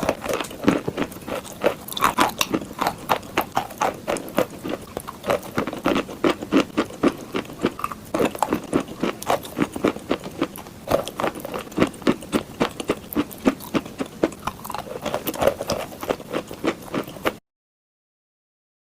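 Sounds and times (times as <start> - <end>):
person chewing chalk: 0.0 - 17.4.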